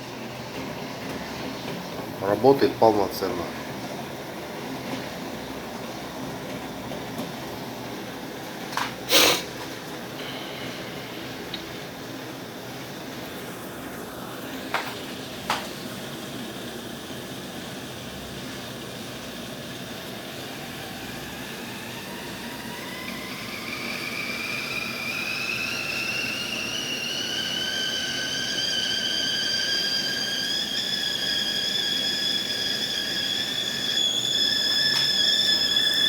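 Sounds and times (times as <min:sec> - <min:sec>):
kettle whistle rising in pitch: 0:00.0 - 0:09.6, 0:10.2 - 0:36.0.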